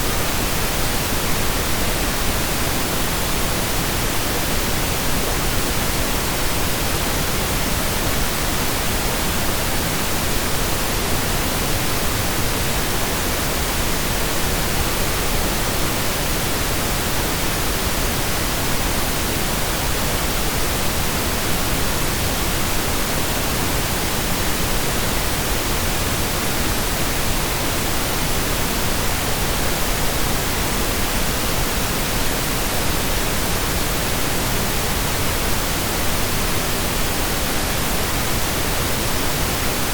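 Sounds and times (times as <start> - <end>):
synthesized pink noise hiss: 0.0 - 39.9.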